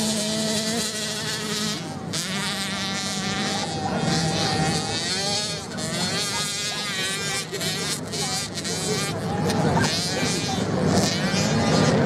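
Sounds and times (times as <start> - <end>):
dirt bike engines racing: 0.0 - 12.0.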